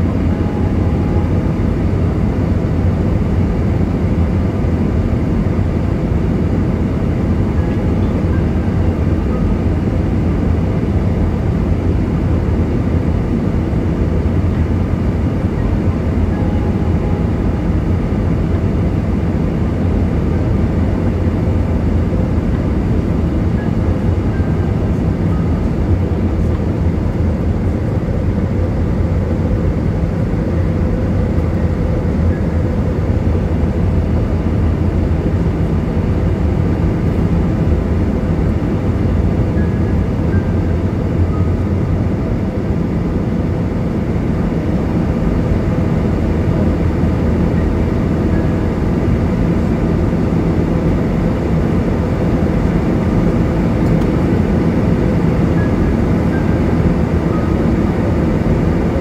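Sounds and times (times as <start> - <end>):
jet engines droning in cabin: 0.0 - 59.0.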